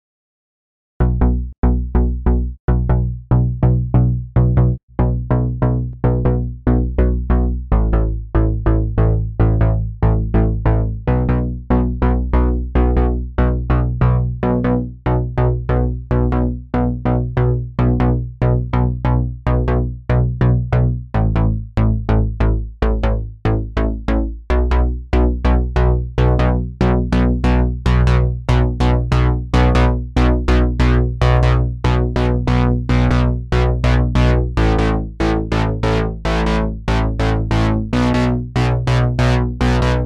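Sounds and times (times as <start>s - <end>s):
electronic synthesizer music: 1.0s - 40.0s.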